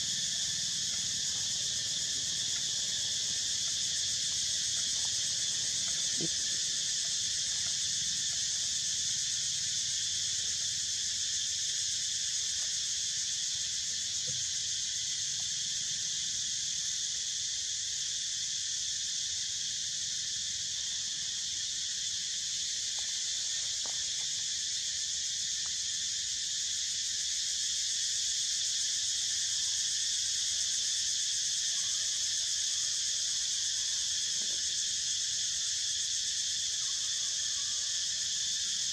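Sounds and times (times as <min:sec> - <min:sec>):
forest insects droning: 0:00.0 - 0:38.9.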